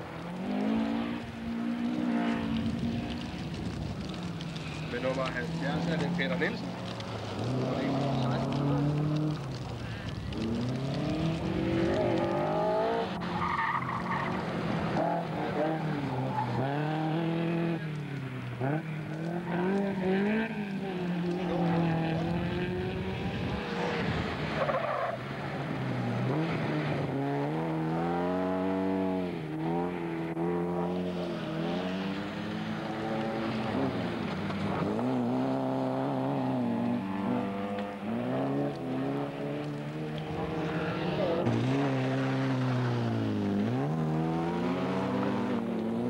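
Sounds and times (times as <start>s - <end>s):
rally car engines revving: 0.0s - 46.0s
tyres skidding on gravel: 0.0s - 46.0s.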